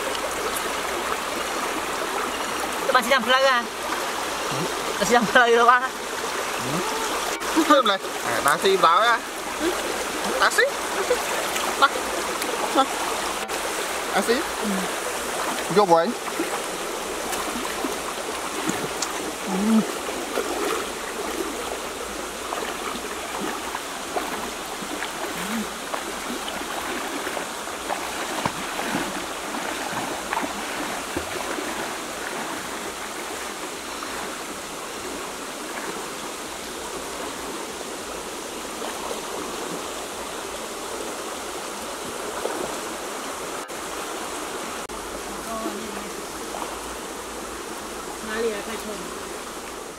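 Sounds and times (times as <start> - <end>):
creek water running: 0.0 - 49.9.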